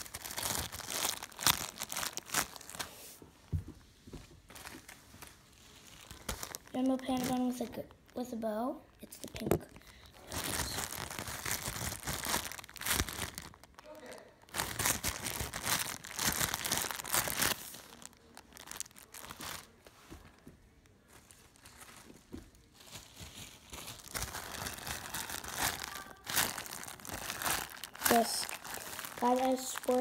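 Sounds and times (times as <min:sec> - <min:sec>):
plastic bag crinkling: 0:00.0 - 0:03.0, 0:04.5 - 0:20.4, 0:21.0 - 0:30.0.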